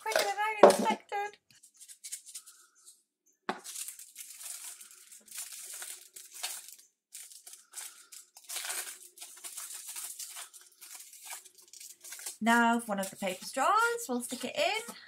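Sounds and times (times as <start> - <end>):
paper wrapper crinkling and tearing: 1.2 - 2.8, 3.5 - 15.0.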